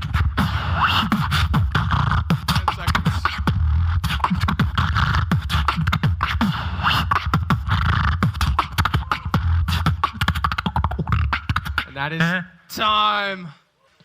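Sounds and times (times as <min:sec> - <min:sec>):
beatboxing vocal drum hits: 0:00.0 - 0:12.6.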